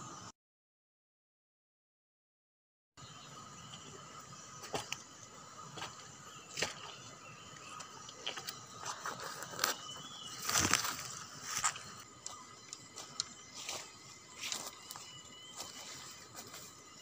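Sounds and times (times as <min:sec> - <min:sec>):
outdoor ambience hiss: 0:00.0 - 0:00.3, 0:03.0 - 0:17.0.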